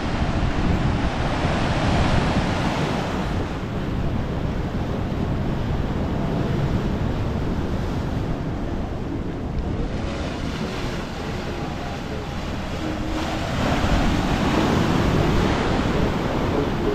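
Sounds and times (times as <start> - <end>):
ocean surf washing in: 0.0 - 16.9
wind buffeting microphone: 0.0 - 16.9.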